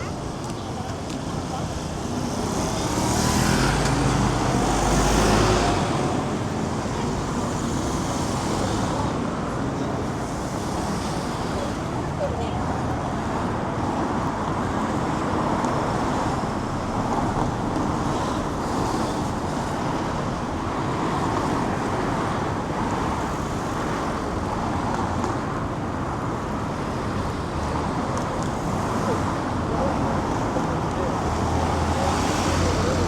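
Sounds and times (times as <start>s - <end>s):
crowd noise: 0.0s - 23.0s, 26.2s - 33.0s
traffic: 0.0s - 33.0s.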